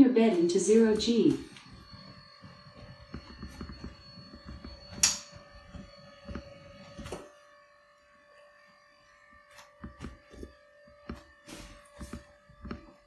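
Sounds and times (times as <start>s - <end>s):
faint bed motors running: 0.0s - 13.0s.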